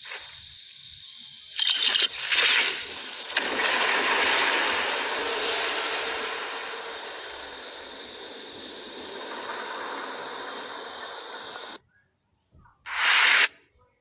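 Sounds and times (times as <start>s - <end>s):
steady rushing hiss: 0.0s - 11.8s, 12.9s - 13.5s.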